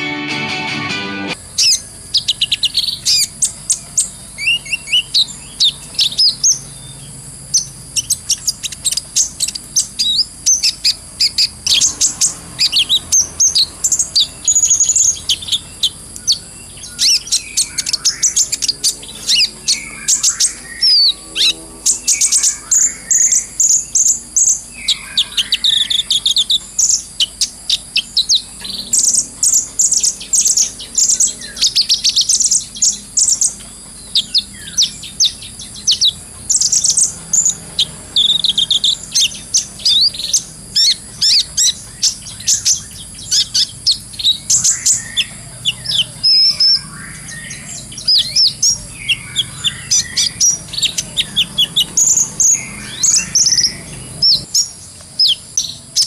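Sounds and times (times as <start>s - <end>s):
bird chattering song: 1.3s - 56.0s.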